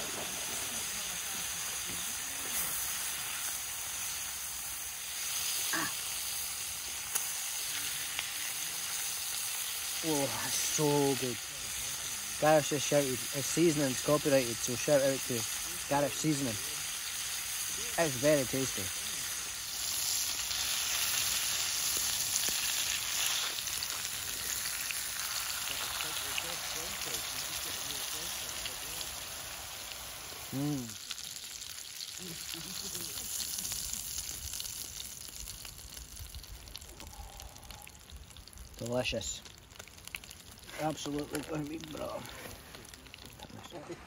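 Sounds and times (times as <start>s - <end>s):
steaks sizzling in pan: 0.0s - 36.9s.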